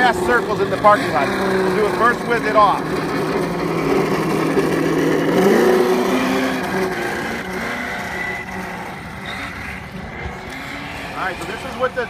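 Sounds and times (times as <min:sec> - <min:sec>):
simulated engine sound from speaker: 0:00.0 - 0:12.0.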